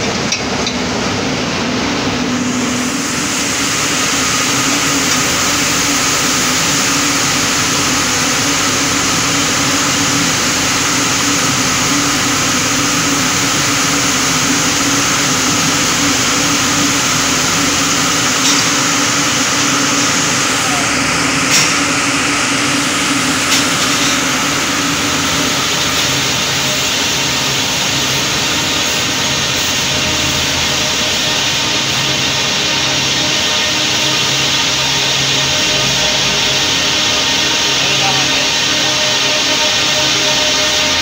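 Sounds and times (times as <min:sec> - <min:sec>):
forklift motor hum: 0:00.0 - 0:41.0.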